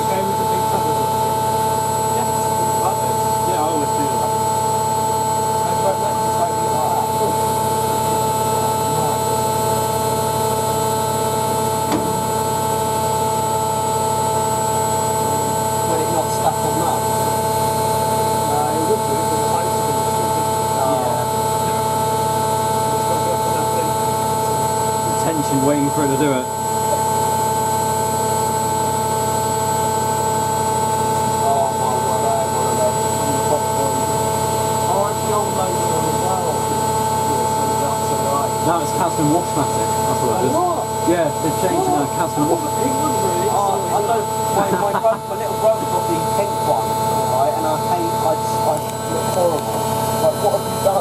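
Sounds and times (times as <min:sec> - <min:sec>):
washing machine whining: 0:00.0 - 0:51.0.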